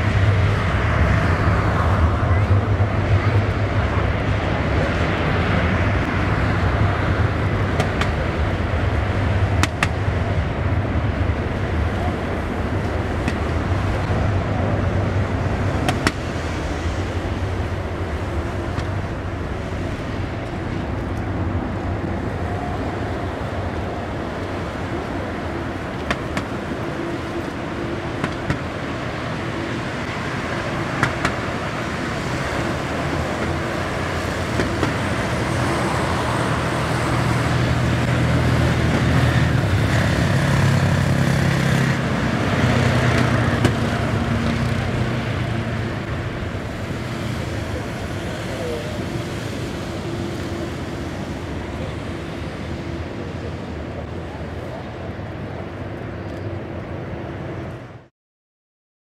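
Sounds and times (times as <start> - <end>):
jet engines at takeoff: 0.0 - 58.1.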